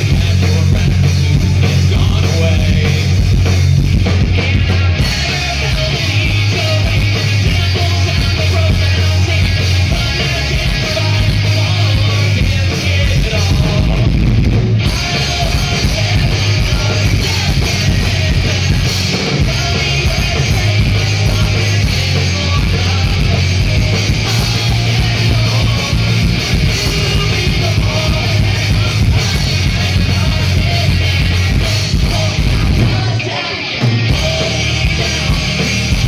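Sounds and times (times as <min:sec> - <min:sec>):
man singing: 0:00.0 - 0:03.5, 0:04.2 - 0:36.0
live rock band playing: 0:00.0 - 0:36.0.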